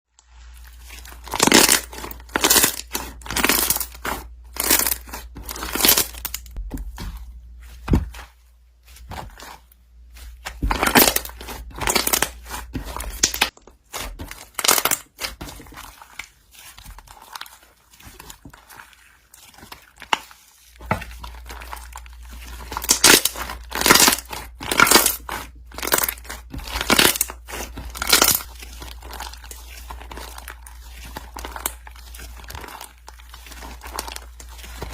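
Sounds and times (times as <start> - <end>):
crinkling and rustling: 0.1 - 34.9.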